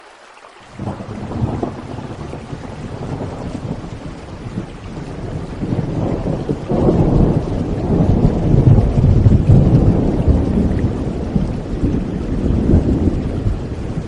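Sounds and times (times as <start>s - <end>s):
steady rain hiss: 0.0s - 14.0s
rolling thunder: 0.8s - 14.0s.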